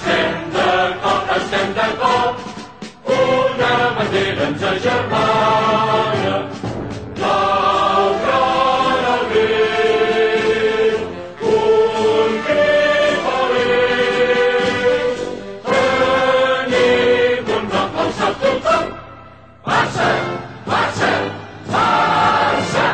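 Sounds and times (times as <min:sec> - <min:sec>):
choir singing held notes: 0:00.0 - 0:22.9.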